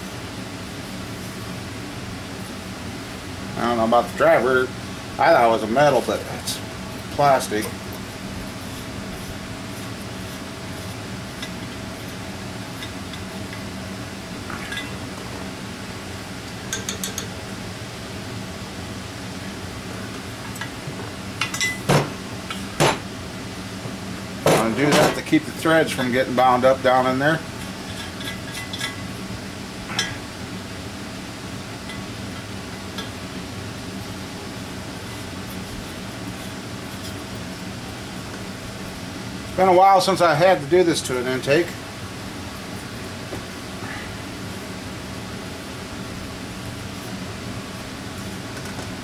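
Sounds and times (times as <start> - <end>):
steady machine hum: 0.0 - 49.0.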